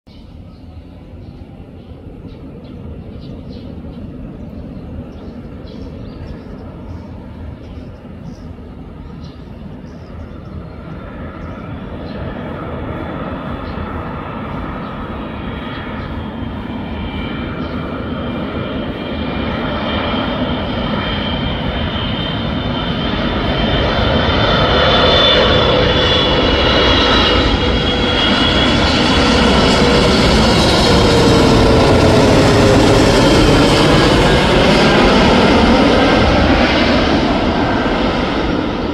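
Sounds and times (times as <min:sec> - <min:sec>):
jet engines passing overhead: 0:00.1 - 0:38.9
multi-tone engine whine: 0:00.1 - 0:38.9.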